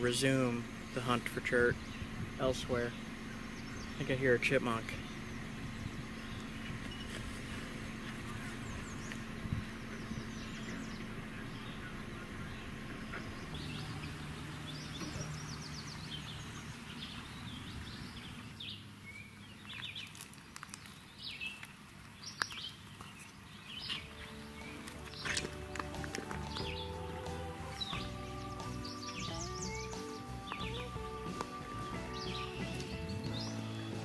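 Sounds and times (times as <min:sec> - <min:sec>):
low background hum: 0:00.0 - 0:34.0
songbirds chirping and singing: 0:00.0 - 0:34.0.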